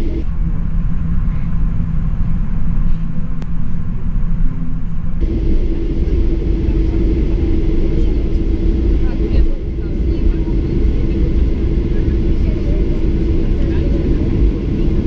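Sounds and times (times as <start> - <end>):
jet engines rumbling in cabin: 0.0 - 15.0
steady hum: 0.0 - 15.0.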